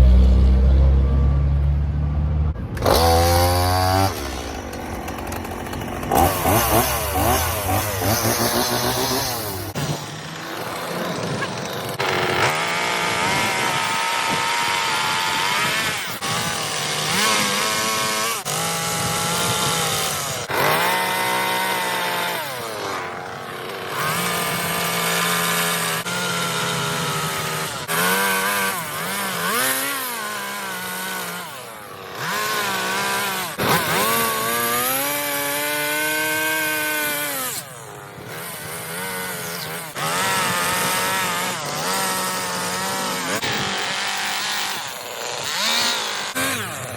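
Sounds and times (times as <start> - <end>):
chainsaw carving wood: 2.7 - 46.9.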